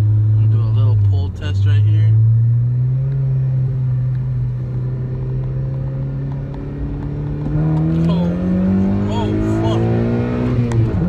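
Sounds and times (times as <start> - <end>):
car engine droning in cabin: 0.0 - 11.0.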